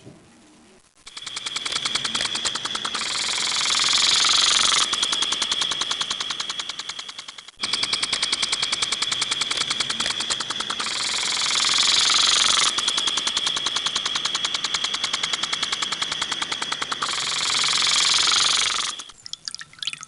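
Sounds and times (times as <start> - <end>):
water spraying in rapid pulses: 1.0 - 19.2.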